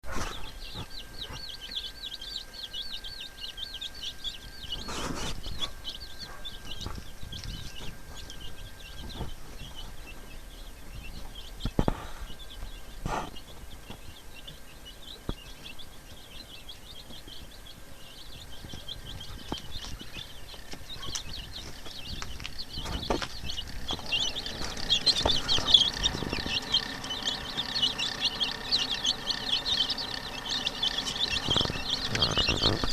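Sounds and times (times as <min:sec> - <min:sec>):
chicks peeping: 0:00.0 - 0:32.9.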